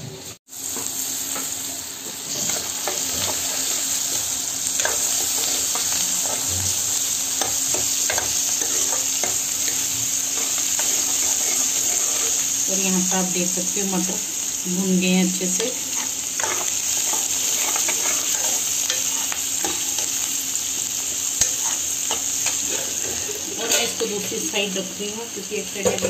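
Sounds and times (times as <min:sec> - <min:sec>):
onions sizzling in oil: 0:00.1 - 0:26.0.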